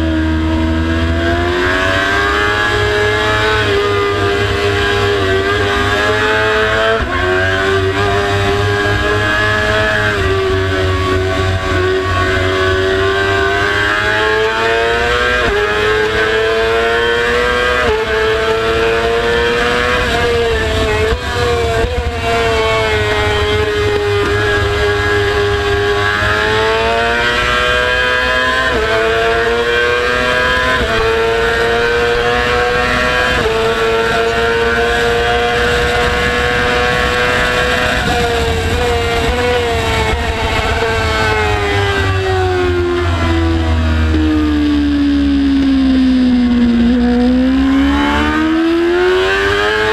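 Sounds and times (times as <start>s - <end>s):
motorcycle engine shifting gears: 0.0s - 49.9s.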